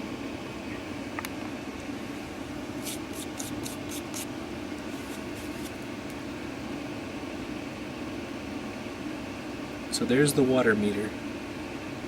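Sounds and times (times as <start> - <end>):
dehumidifier humming: 0.0 - 12.0.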